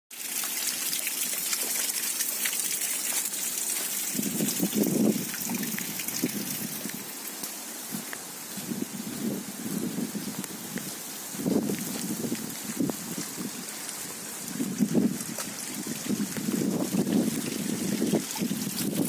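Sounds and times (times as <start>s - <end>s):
water hissing: 0.1s - 19.0s.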